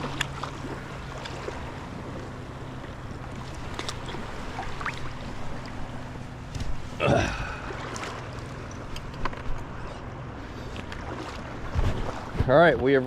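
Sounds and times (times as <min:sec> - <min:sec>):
water noise: 0:00.0 - 0:13.0
watercraft engine humming: 0:00.0 - 0:13.0
wind: 0:00.0 - 0:13.0.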